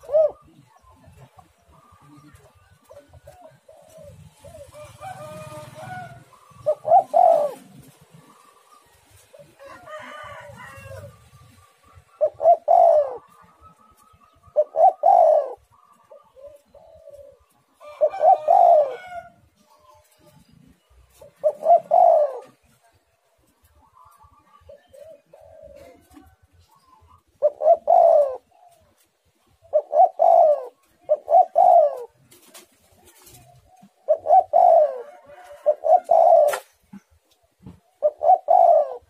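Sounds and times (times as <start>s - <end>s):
dove cooing: 0.0s - 39.0s.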